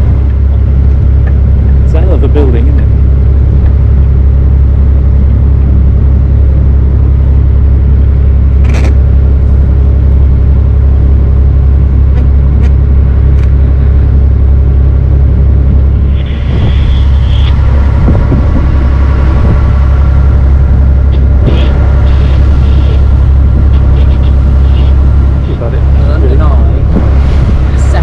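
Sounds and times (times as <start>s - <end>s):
motor barge engine rumble: 0.0s - 28.0s.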